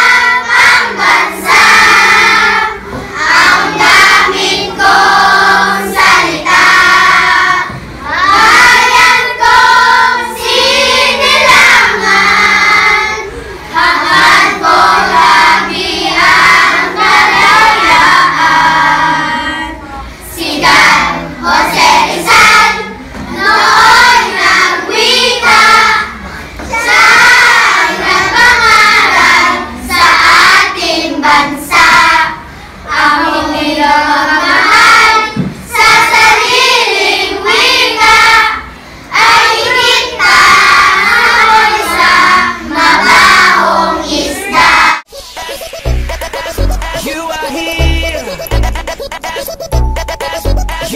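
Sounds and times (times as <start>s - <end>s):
children singing in unison: 0.0s - 48.5s.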